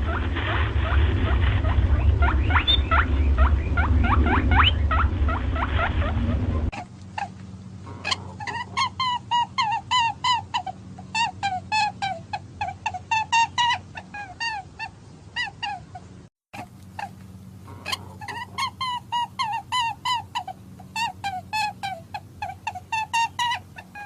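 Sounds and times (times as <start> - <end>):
rabbit squeaking: 0.0 - 24.0.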